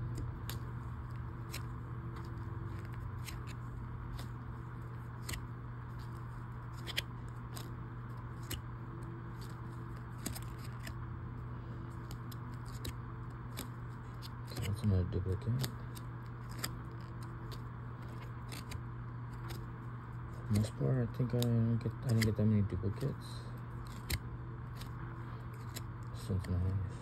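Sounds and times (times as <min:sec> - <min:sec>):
card edges clicking: 0:00.0 - 0:11.0, 0:11.9 - 0:19.7, 0:20.3 - 0:25.0, 0:25.6 - 0:26.8
steady low hum: 0:00.0 - 0:27.0.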